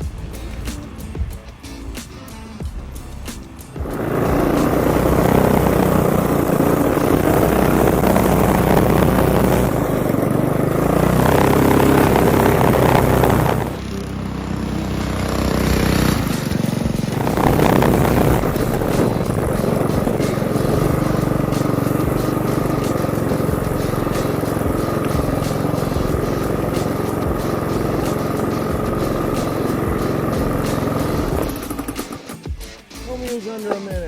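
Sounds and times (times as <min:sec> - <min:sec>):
mini bike engine running hard: 0:02.6 - 0:32.5.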